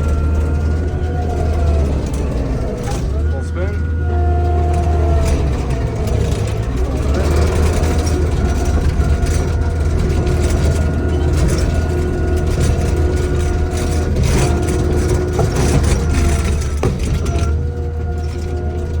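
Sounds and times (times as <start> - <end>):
diesel engine droning with whine: 0.0 - 19.0
machine rattling: 0.0 - 19.0.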